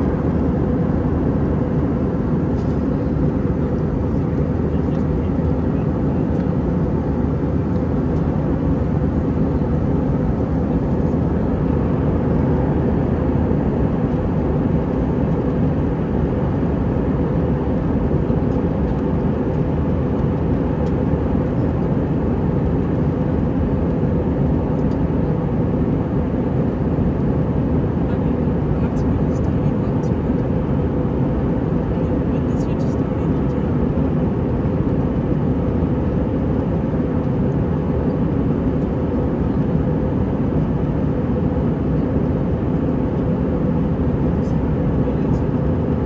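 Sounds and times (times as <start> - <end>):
airplane cabin rumble: 0.0 - 46.0.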